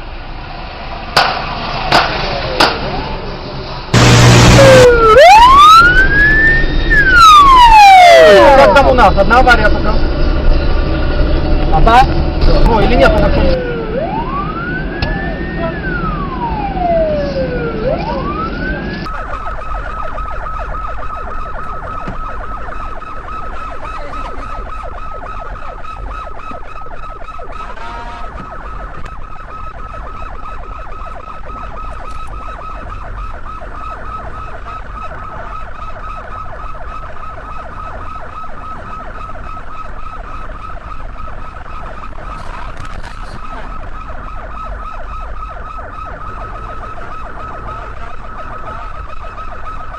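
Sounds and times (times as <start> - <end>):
police siren wailing: 3.9 - 49.9
pulsing high siren tone: 3.9 - 49.9.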